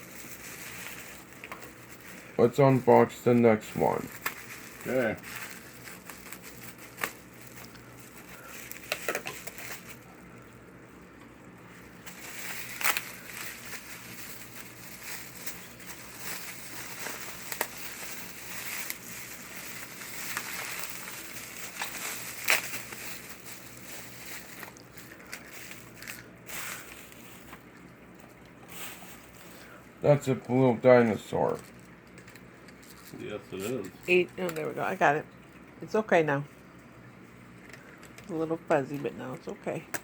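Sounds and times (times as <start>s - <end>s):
packaging crinkling: 0.0s - 30.7s, 31.4s - 34.8s.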